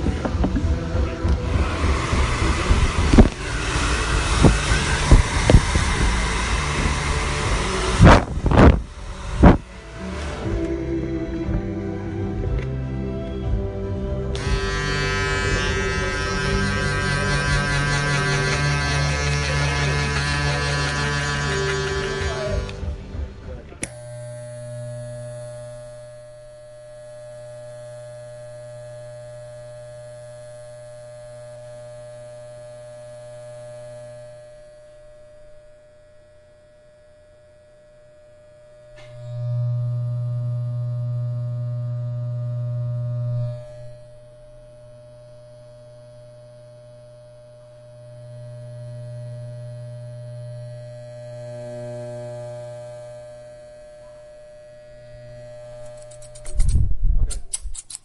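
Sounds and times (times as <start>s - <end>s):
electric hair clippers buzzing: 0.0s - 11.6s, 13.4s - 56.9s.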